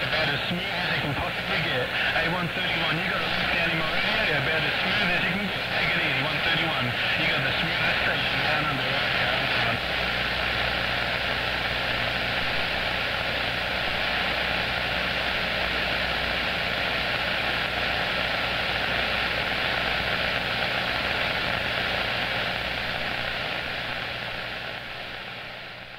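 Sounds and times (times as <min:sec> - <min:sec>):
radio static hiss: 0:00.0 - 0:25.9.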